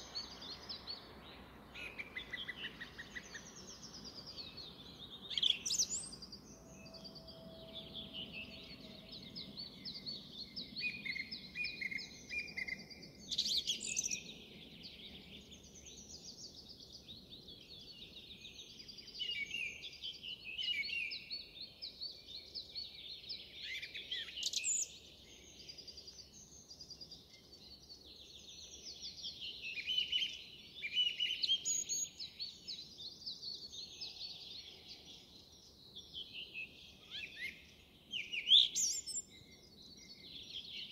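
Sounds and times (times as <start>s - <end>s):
song thrush singing: 0.0s - 40.9s.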